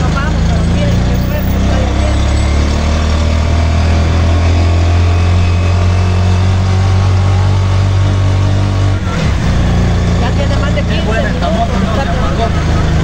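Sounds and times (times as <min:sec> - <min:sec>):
small motor-rickshaw engine running: 0:00.0 - 0:13.0.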